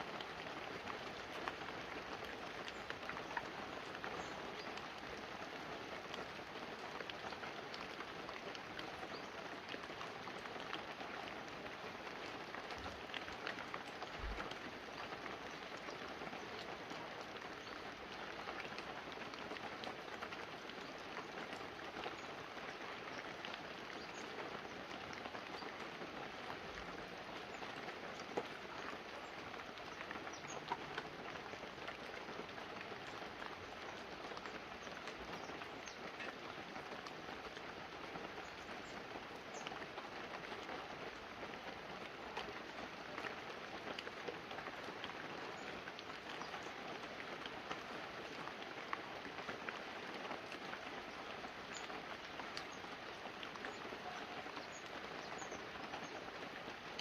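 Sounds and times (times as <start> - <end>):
light rain pattering on leaves: 0.0 - 57.0.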